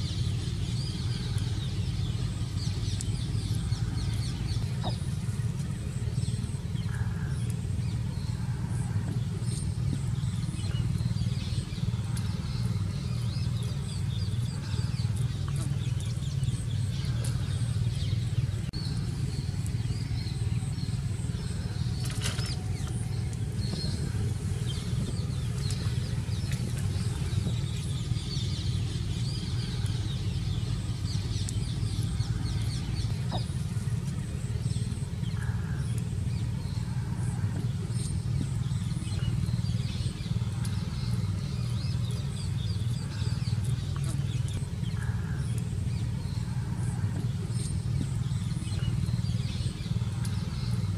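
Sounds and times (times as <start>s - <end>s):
low background rumble: 0.0s - 50.9s.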